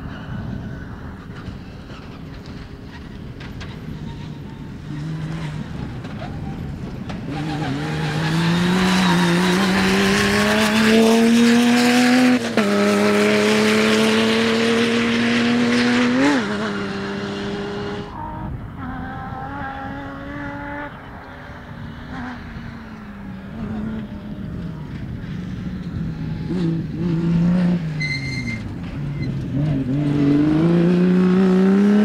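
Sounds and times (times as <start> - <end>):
distant rally car engine: 0.0 - 32.0
rally car engine accelerating past: 4.0 - 32.0.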